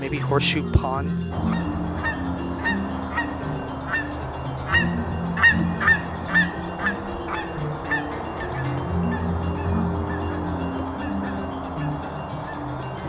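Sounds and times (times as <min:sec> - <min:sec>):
quiet background music: 0:00.0 - 0:13.0
geese honking: 0:01.3 - 0:13.0.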